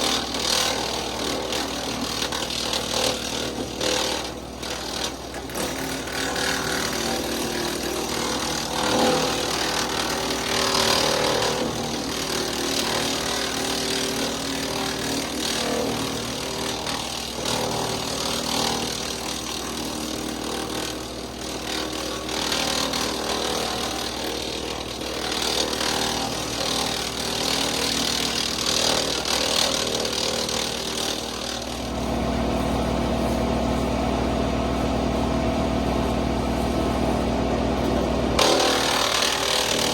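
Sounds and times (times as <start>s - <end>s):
wood chipper chipping wood: 0.0s - 39.9s.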